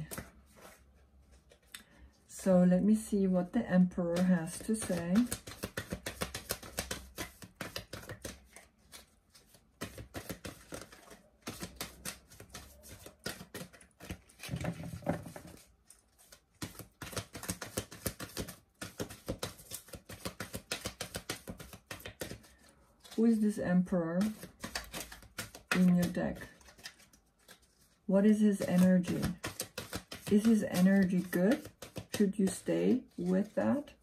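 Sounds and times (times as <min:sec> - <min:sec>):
cards being shuffled: 0:00.0 - 0:01.7, 0:04.1 - 0:34.0.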